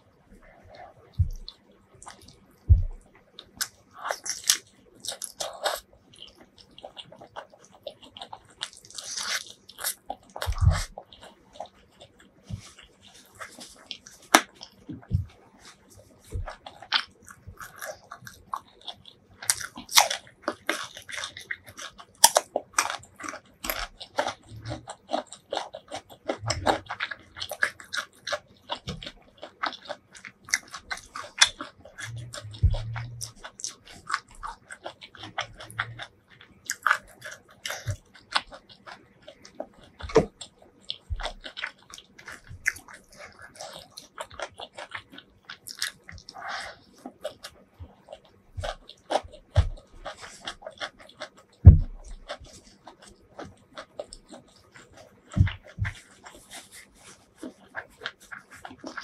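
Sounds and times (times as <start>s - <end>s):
wet chewing and lip smacking: 0.3s - 59.0s.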